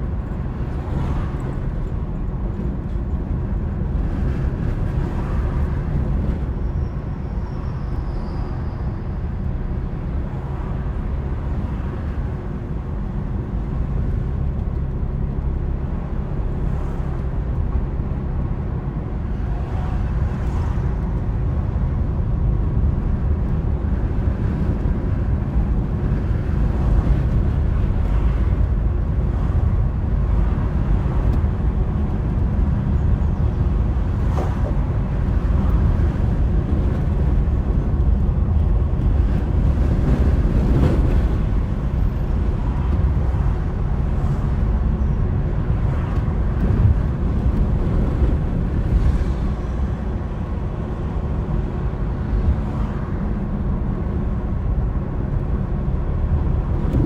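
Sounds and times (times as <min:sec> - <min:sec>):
road and wind noise rumble: 0:00.0 - 0:57.0.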